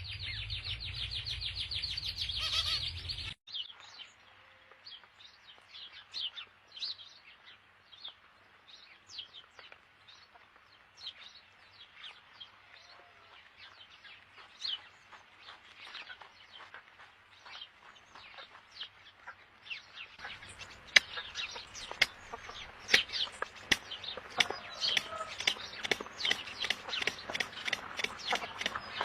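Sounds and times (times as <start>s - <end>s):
birds chirping: 0.0s - 4.2s, 5.0s - 29.0s.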